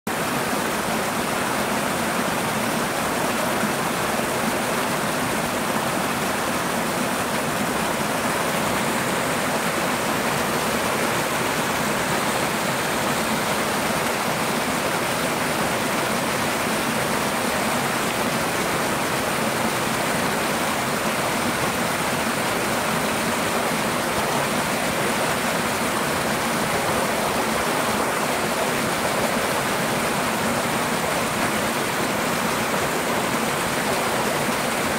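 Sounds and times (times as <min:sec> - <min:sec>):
waterfalls splashing over rocks: 0:00.1 - 0:34.9.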